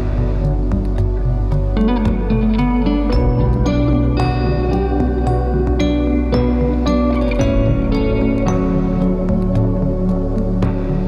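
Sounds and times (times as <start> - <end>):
gentle new-age instrumental music: 0.0 - 11.0.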